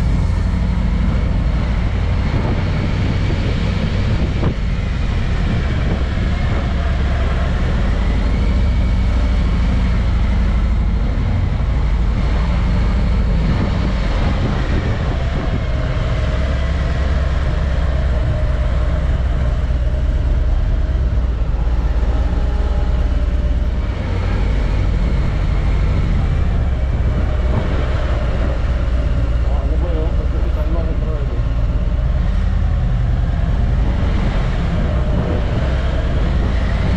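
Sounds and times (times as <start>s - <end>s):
car engine rumble: 0.0s - 36.9s
road noise: 0.0s - 36.9s.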